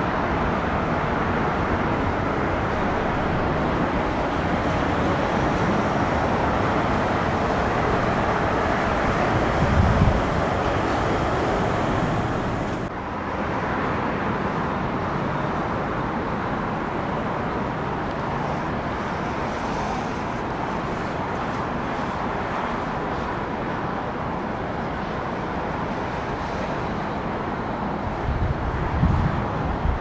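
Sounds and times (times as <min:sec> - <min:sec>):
jet engine noise: 0:00.0 - 0:30.0.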